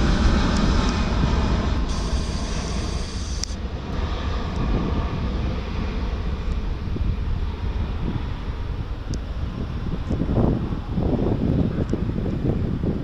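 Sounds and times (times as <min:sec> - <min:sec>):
airliner engine rumble: 0:00.0 - 0:13.0
wind buffeting microphone: 0:00.0 - 0:13.0.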